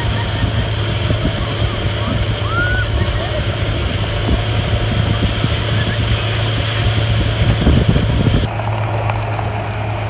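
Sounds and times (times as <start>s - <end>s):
boat engine humming: 0.0s - 10.0s
wind buffeting microphone: 0.0s - 10.0s.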